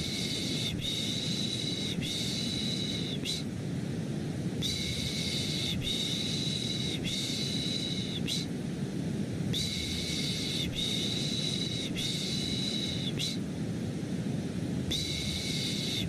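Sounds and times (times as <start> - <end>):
low white-noise rumble: 0.0 - 16.0.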